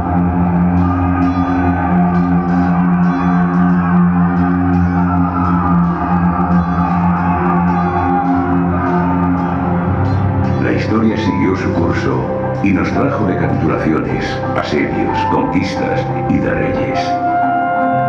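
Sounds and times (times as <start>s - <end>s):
instrumental soundtrack music: 0.0s - 18.0s.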